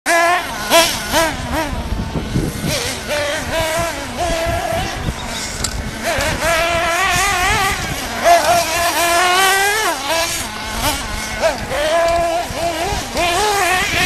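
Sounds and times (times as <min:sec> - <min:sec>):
small engine revving: 0:00.1 - 0:14.0.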